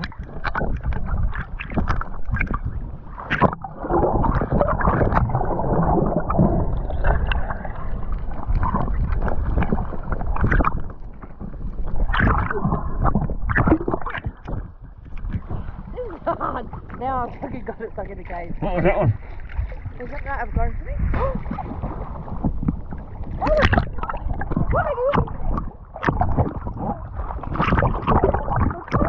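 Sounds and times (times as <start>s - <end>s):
knocks and splashes: 0.0s - 29.0s
water sloshing around swimmer: 0.0s - 29.0s.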